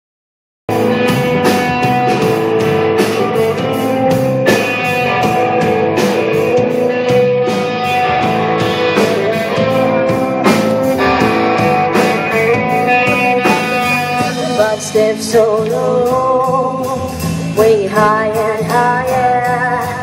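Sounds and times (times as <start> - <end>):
bass guitar: 0.7 - 20.0
drums and cymbal hits: 0.7 - 20.0
electric guitar: 0.7 - 20.0.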